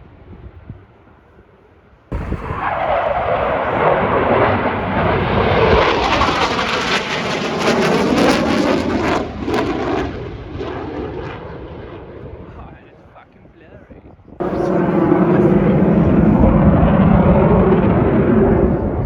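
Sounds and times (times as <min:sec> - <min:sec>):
jet aircraft flying past: 0:02.1 - 0:13.0, 0:14.4 - 0:19.0.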